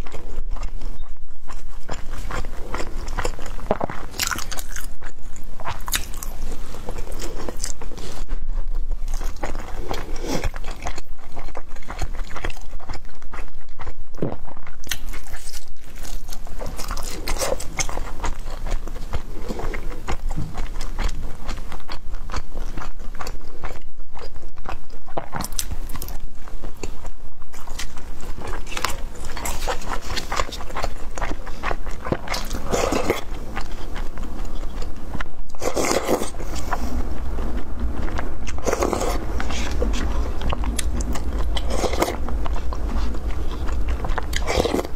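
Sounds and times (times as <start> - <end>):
person biting and chewing food: 0.0 - 44.9.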